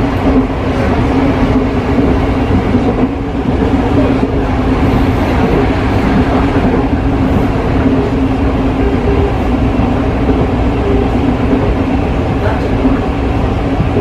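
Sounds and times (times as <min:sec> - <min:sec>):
low train hum: 0:00.0 - 0:14.0
train wheels rumbling on rail: 0:00.0 - 0:14.0.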